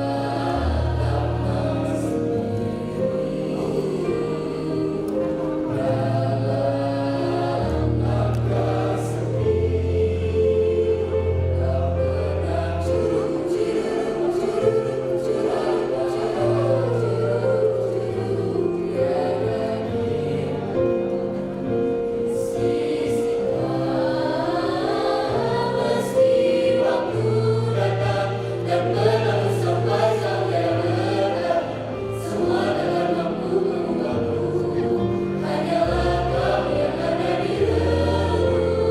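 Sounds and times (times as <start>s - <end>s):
choir singing in parts: 0.0s - 38.9s.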